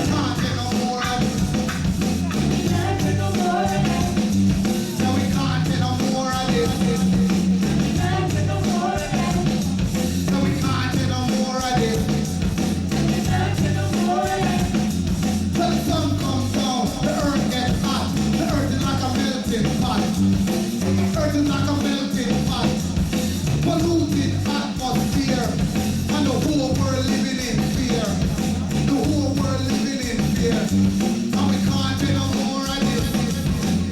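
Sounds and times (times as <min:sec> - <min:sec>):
person singing: 0:00.0 - 0:14.9, 0:15.6 - 0:22.8, 0:23.5 - 0:33.9
bass line: 0:00.0 - 0:33.9
reggae band playing: 0:00.0 - 0:33.9.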